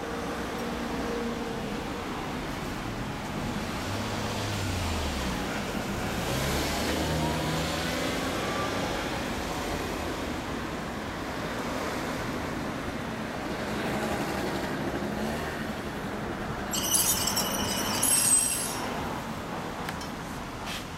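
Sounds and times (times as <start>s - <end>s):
passing vehicle engine and tyres: 0.0s - 20.9s.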